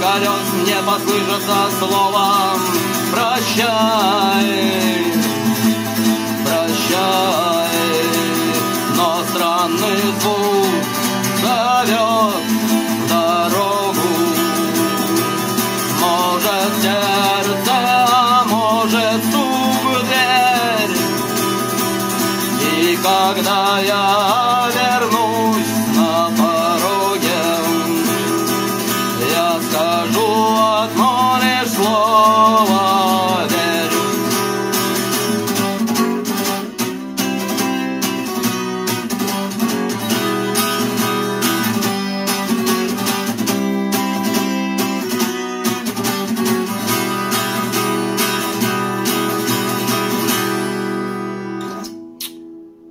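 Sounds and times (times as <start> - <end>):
acoustic guitar strumming: 0.0 - 52.9.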